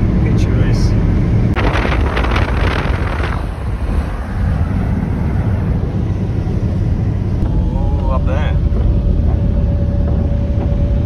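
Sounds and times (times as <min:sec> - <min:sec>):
vehicle road rumble: 0:00.0 - 0:11.0
wind noise: 0:00.0 - 0:11.0.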